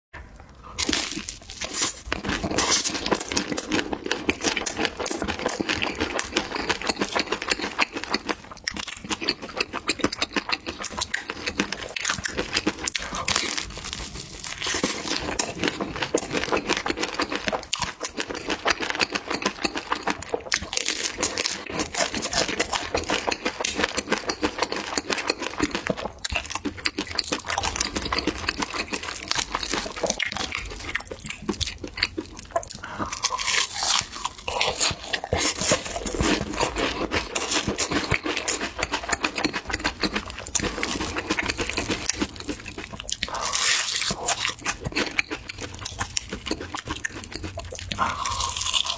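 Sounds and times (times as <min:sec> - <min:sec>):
wet chewing and smacking: 0:00.4 - 0:48.9.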